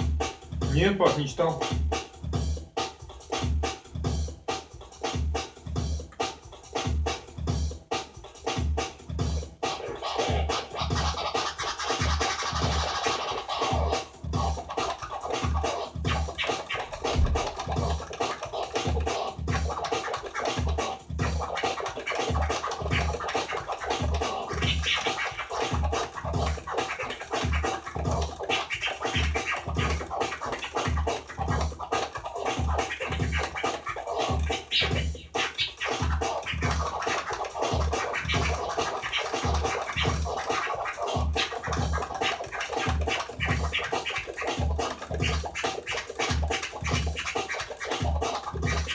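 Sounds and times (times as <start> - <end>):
dj scratching: 0.0 - 48.9
electronic beat with heavy kick: 0.0 - 48.9.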